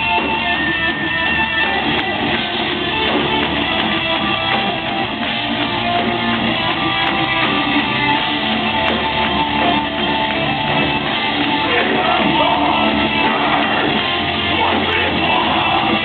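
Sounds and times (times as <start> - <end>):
distorted electric guitars: 0.0 - 16.0
drums: 0.0 - 16.0
live metal band playing: 0.0 - 16.0.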